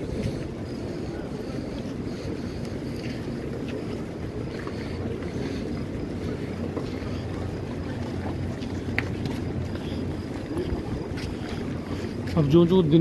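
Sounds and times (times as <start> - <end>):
crowd walking rumble: 0.0 - 13.0
wind buffeting microphone: 0.0 - 13.0.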